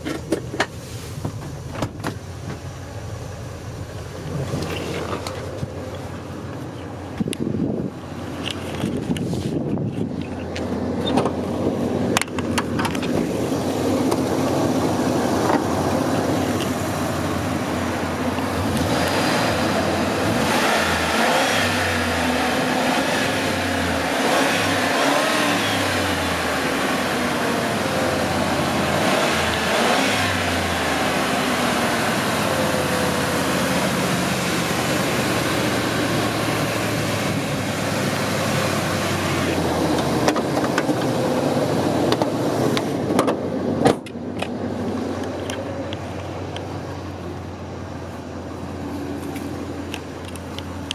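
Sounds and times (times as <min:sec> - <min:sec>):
vehicle engine droning: 0:00.0 - 0:50.9.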